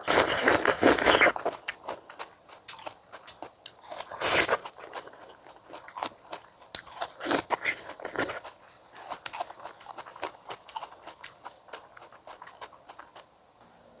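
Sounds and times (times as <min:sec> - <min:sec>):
crunching bite into fruit: 0:00.0 - 0:13.2
juicy chewing clicks: 0:00.2 - 0:13.3.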